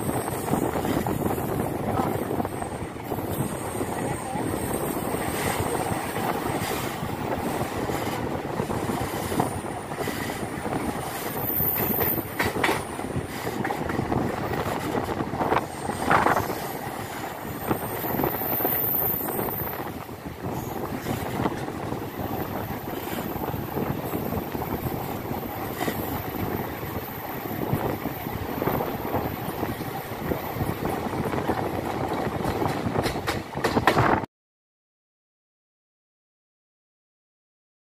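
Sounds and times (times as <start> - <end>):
train wheels rumbling on rails: 0.0 - 34.3.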